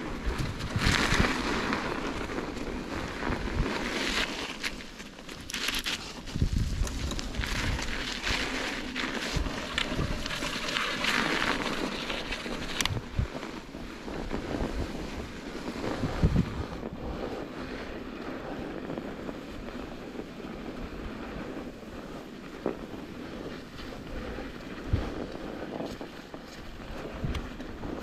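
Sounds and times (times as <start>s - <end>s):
bike tyres rolling on snowy trail: 0.0s - 28.0s
wind on the microphone: 0.0s - 28.0s.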